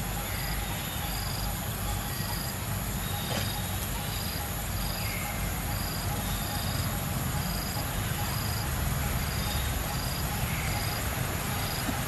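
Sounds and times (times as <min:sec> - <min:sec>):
insect chirp: 0:00.0 - 0:12.0
insects buzzing: 0:00.0 - 0:12.0.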